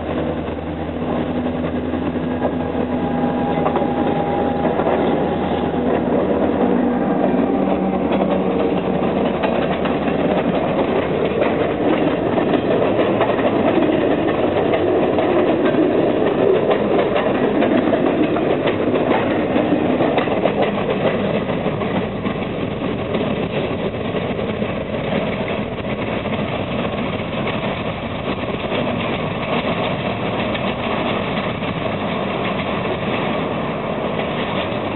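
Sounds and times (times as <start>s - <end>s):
engine rumble: 0.0s - 34.9s
train wheels rolling on rails: 0.0s - 34.9s.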